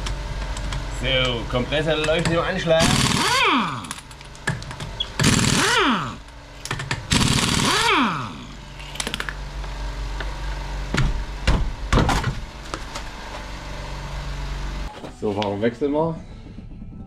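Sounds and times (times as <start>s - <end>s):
air compressor running: 0.0s - 15.4s.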